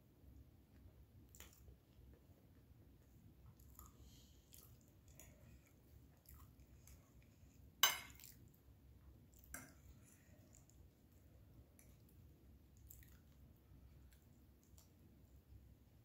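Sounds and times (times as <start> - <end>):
chewing soft food: 0.6 - 15.7.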